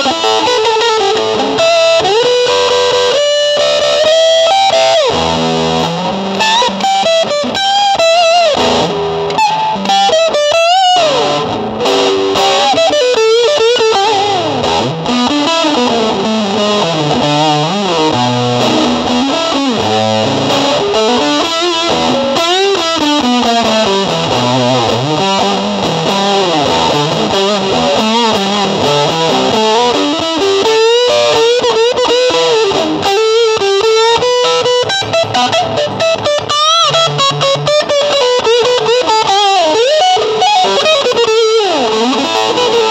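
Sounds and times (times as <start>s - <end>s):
distorted electric guitar lead: 0.0s - 42.9s.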